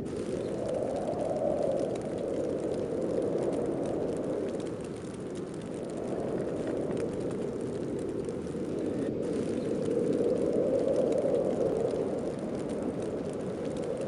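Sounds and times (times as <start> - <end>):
snowstorm wind rushing: 0.0 - 14.0.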